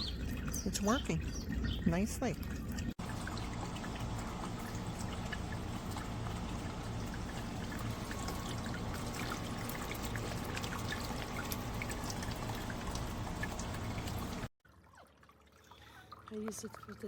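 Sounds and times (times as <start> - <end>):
fountain water trickling and splashing: 0.0 - 17.0.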